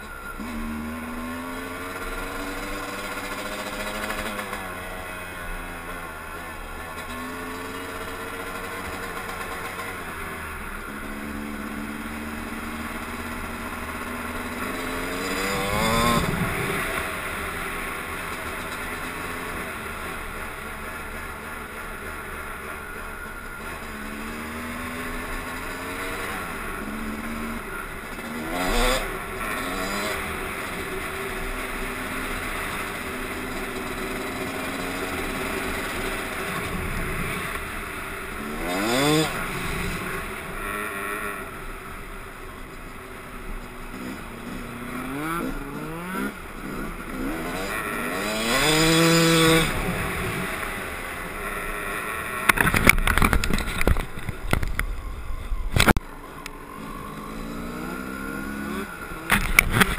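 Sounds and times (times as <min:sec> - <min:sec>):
dirt bike engine revving: 0:00.0 - 0:54.6, 0:55.6 - 0:59.9.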